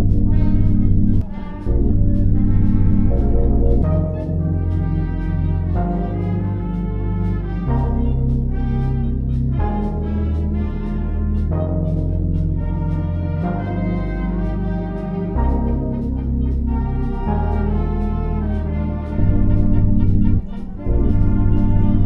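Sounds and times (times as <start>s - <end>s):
orchestral music with brass chords: 0.0s - 22.0s.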